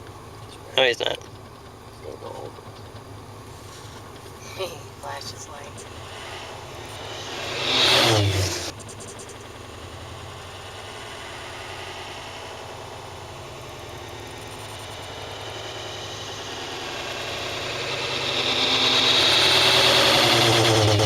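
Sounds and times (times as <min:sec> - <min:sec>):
distant turboprop engine drone: 0:00.0 - 0:21.0.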